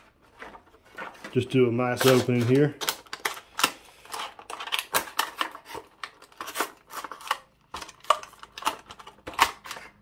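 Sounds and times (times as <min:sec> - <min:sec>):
stiff plastic clicking and crackling: 0:01.0 - 0:10.0.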